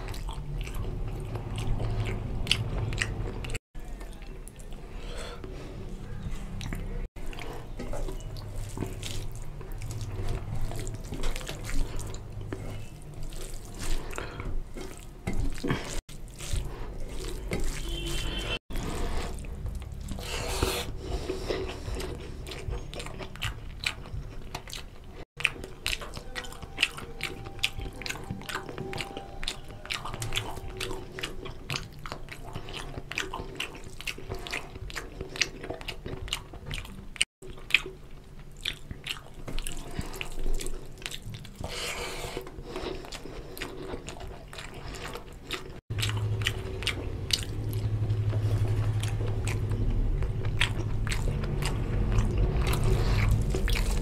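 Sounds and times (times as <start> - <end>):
hand mixing rice and curry: 0.0 - 54.0
person chewing: 0.0 - 54.0.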